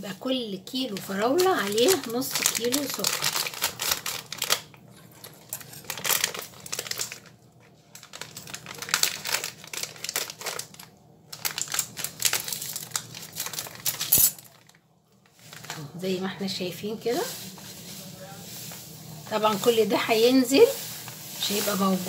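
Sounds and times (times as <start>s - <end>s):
plastic bag crinkling: 0.2s - 22.0s.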